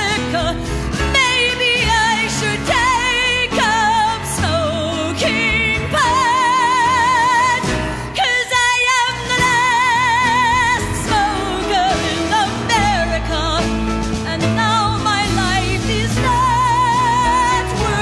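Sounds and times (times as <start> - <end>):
band accompaniment: 0.0 - 18.0.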